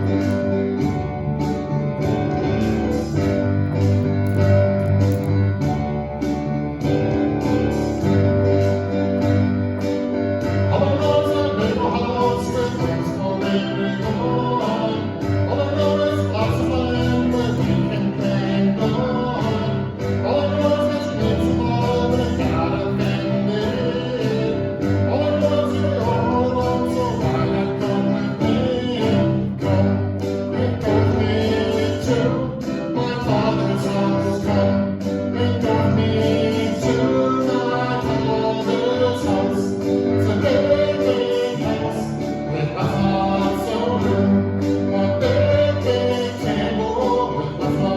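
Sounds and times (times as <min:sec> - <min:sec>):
gospel song with guitar backing: 0:00.0 - 0:47.9.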